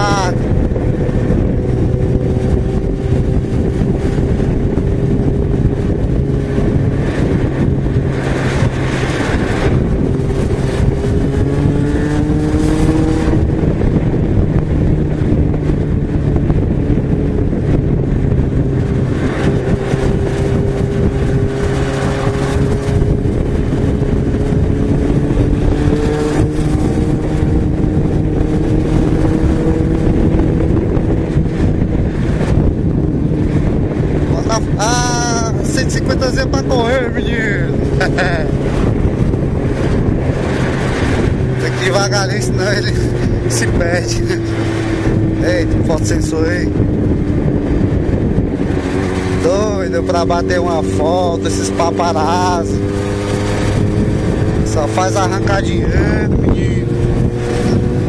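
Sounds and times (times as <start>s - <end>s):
motorcycle engine cruising: 0.0s - 58.0s
wind noise rushing: 0.0s - 58.0s.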